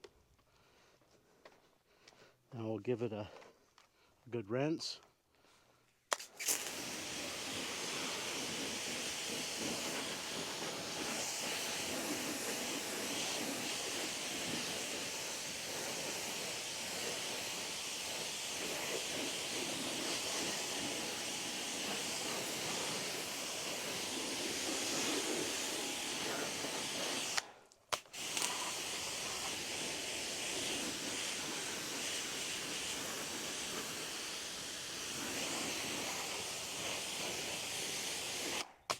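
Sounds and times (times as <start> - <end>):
water spraying from hose: 6.1 - 38.7.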